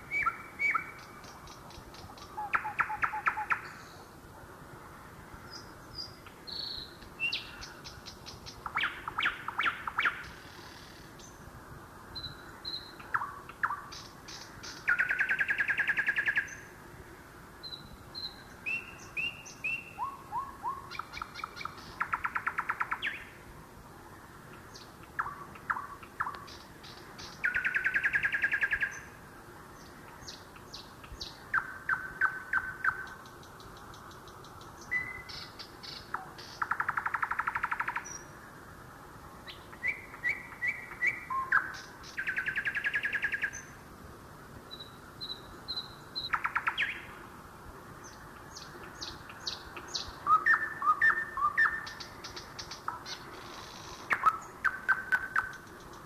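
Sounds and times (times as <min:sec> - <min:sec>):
songbirds singing: 0:00.0 - 0:43.9, 0:44.5 - 0:56.0.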